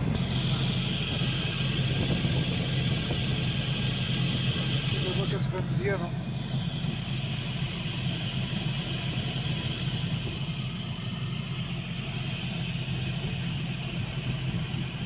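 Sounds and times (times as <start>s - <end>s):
heater blower fan running: 0.0s - 15.0s.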